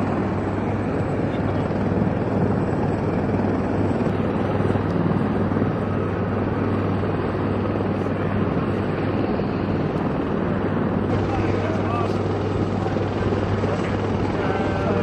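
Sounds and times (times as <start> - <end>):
helicopter running: 0.0 - 15.0.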